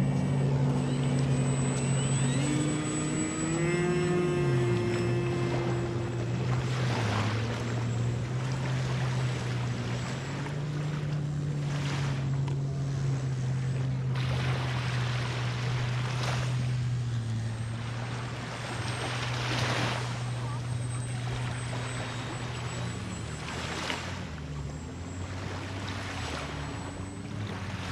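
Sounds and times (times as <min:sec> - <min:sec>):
model plane propeller droning: 0:00.0 - 0:27.9.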